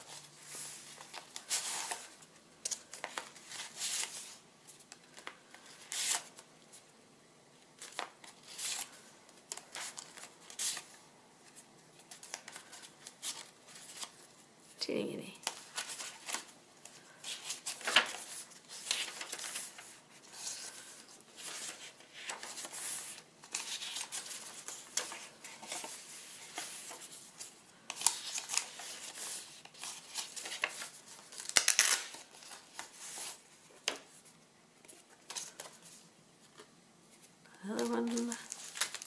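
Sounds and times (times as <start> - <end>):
paper rustling: 0.0 - 6.9, 7.8 - 14.3, 15.4 - 39.0.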